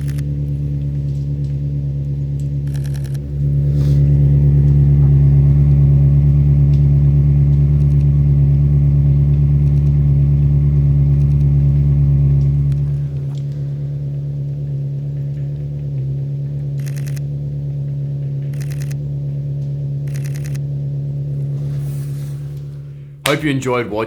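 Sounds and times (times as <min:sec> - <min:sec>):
car engine running steadily: 0:00.0 - 0:24.0.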